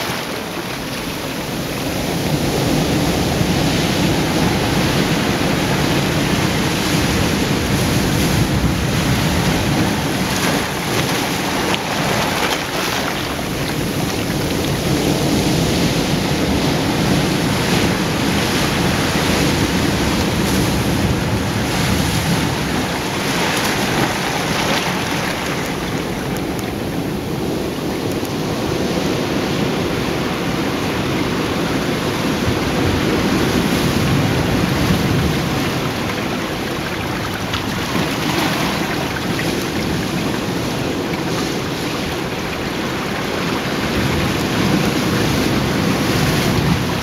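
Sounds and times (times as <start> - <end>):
surf breaking on rocks: 0.0 - 47.0.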